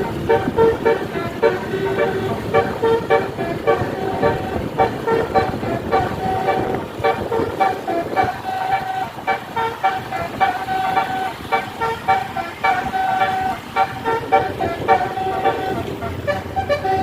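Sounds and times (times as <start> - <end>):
bus horn tooting melody: 0.0 - 17.0.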